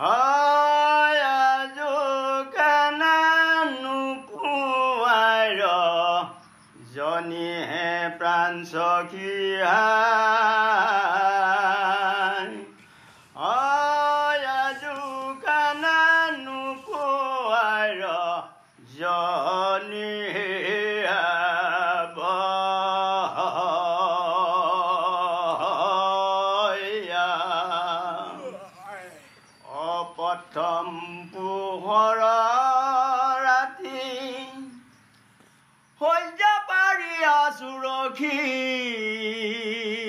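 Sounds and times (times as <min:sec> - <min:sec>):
solo voice singing slowly: 0:00.0 - 0:40.0.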